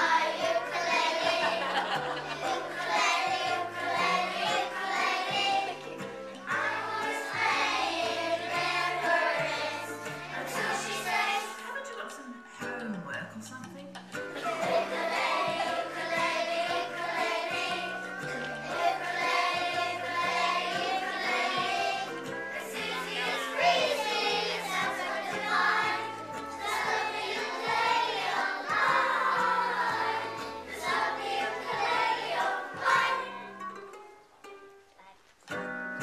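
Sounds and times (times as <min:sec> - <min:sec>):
young children singing: 0:00.0 - 0:12.0, 0:14.2 - 0:33.9
ukuleles playing: 0:00.0 - 0:36.0.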